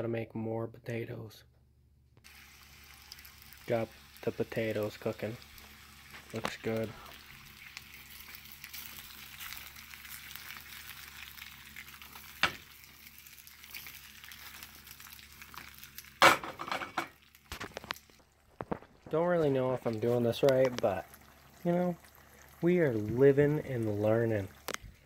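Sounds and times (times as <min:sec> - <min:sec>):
potatoes sizzling in oil: 0:02.2 - 0:16.3, 0:16.9 - 0:25.0.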